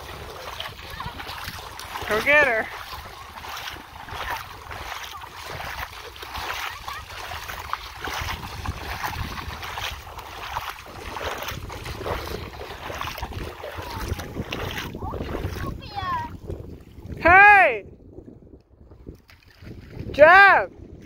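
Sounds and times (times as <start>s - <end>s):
feet splashing through water: 0.0s - 17.2s, 18.2s - 21.0s
shallow water washing: 0.0s - 17.8s, 18.8s - 21.0s
wind rumbling on microphone: 0.0s - 21.0s.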